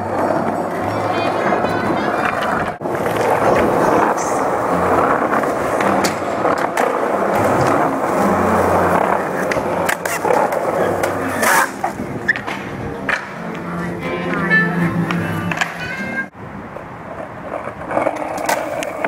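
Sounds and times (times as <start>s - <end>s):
skateboard clacks: 0.0s - 16.3s, 17.1s - 19.0s
skateboard wheels rolling on concrete: 0.0s - 19.0s.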